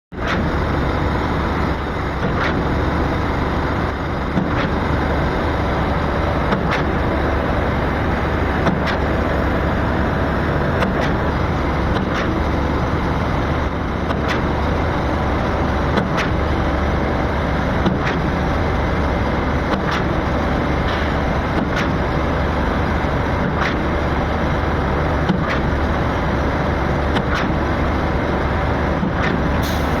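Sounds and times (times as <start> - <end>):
concrete pump engine running: 0.2 - 30.0.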